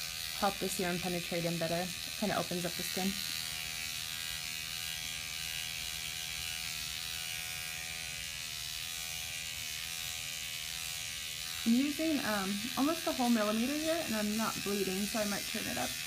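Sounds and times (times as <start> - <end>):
microneedling pen motor buzz: 0.0 - 16.0.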